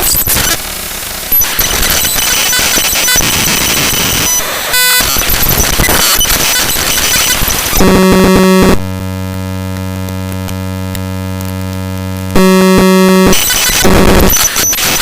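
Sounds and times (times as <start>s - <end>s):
harsh digital static and buzzing: 0.0s - 15.0s
steady stacked tones: 1.4s - 15.0s.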